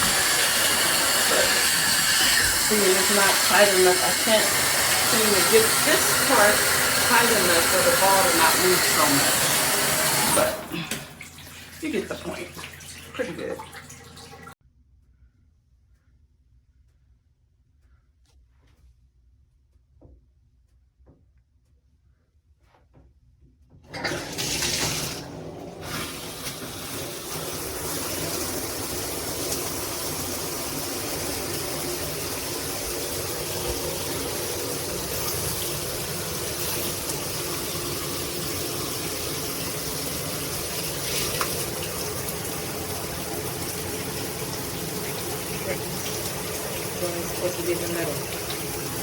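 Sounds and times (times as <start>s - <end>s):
shower head spraying water: 0.0s - 14.5s, 23.9s - 49.0s.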